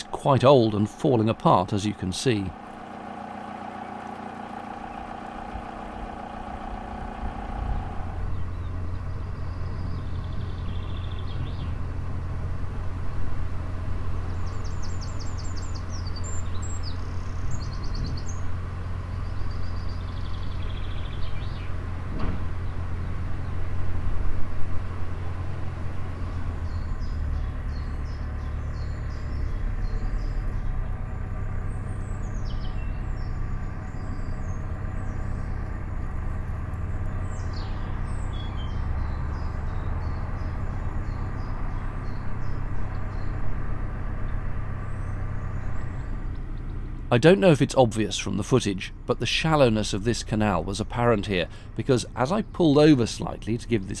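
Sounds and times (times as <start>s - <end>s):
birds singing: 0.0s - 12.1s, 14.1s - 22.0s, 26.0s - 54.0s
diesel engine droning: 0.0s - 54.0s.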